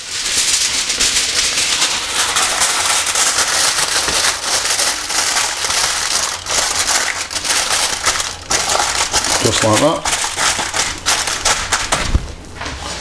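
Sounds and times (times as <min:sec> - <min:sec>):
aluminium foil crinkling: 0:00.0 - 0:12.2.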